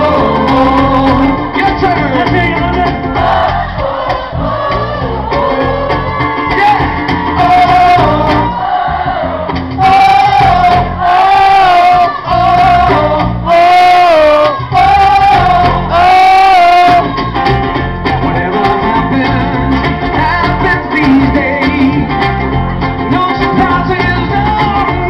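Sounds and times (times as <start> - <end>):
acoustic guitar: 0.0 - 25.0
box-drum beat: 0.0 - 25.0
electric bass: 0.0 - 25.0
loud lead melody of held notes: 0.0 - 25.0.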